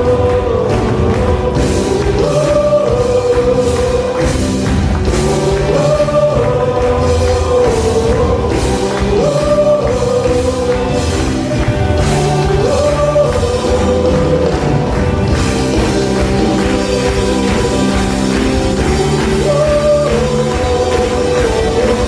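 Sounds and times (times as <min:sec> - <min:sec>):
band with drums: 0:00.0 - 0:22.0
choir singing in unison: 0:00.0 - 0:22.0.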